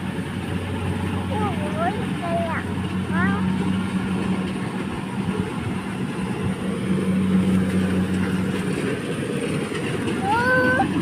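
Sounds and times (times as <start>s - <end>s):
harvester engine running: 0.0s - 11.0s.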